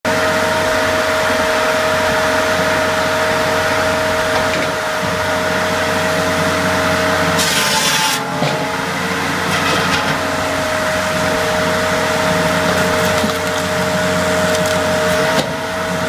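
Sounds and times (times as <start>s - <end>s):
machine humming and whining: 0.1s - 16.0s.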